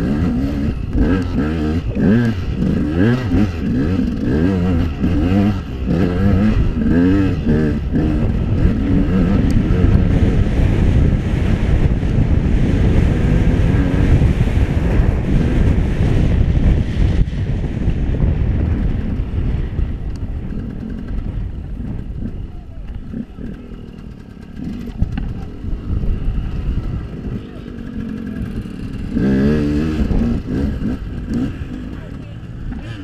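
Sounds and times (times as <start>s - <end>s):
dirt bike engine revving: 0.0s - 19.4s, 20.4s - 33.0s
wind buffeting microphone: 0.0s - 33.0s.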